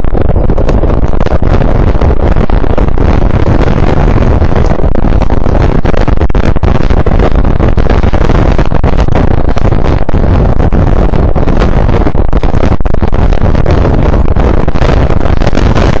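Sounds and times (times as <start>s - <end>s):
wind blowing over microphone: 0.0s - 16.0s.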